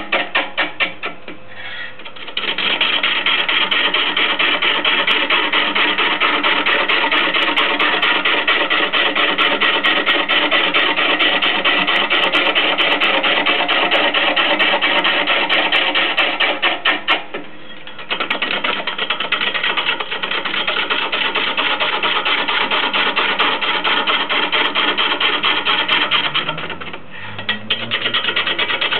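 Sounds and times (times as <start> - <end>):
gouge scraping spinning wood: 0.0 - 28.9.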